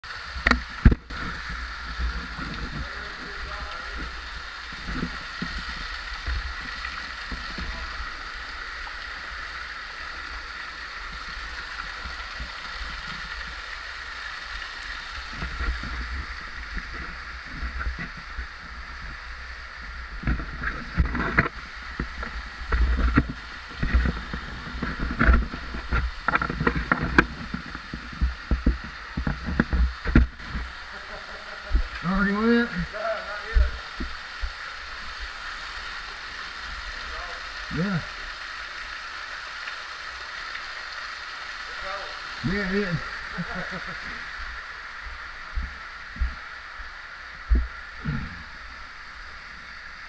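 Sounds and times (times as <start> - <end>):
water rushing through cave: 0.0 - 50.0.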